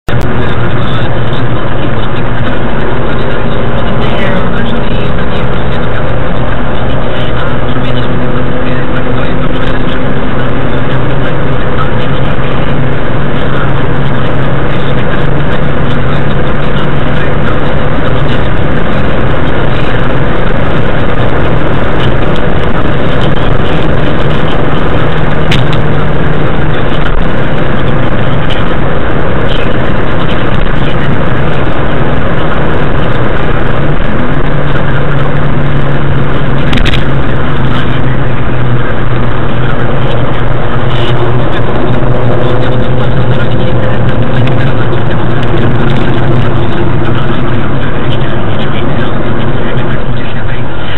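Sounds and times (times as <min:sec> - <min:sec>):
car engine hum: 0:00.0 - 0:50.9
wind noise: 0:00.0 - 0:50.9.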